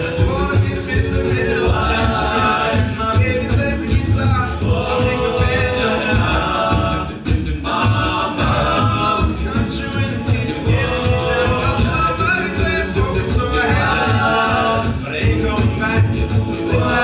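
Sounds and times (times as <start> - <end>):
low vocal beat: 0.0 - 17.0
men's a cappella group singing: 0.0 - 17.0.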